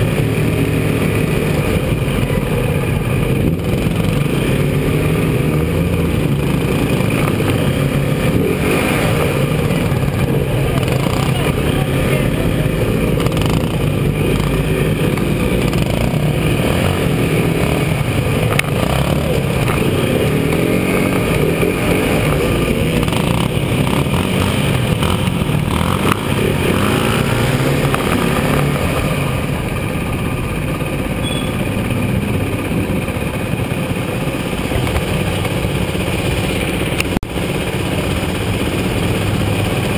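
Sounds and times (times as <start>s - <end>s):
small motorcycle engines: 0.0s - 39.9s.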